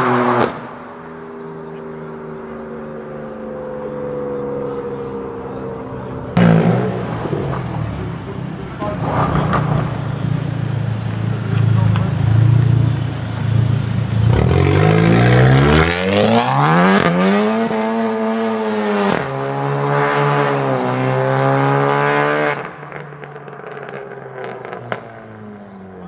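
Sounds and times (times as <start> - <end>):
sports car engine accelerating: 0.0 - 26.0.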